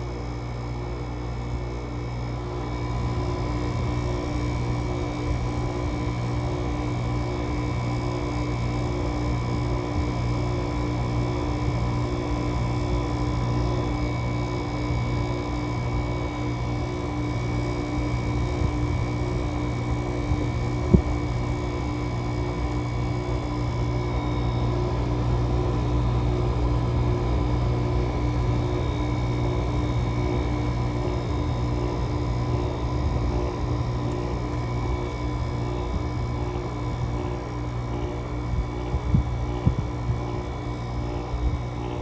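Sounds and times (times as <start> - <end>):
air conditioner humming: 0.0 - 42.0.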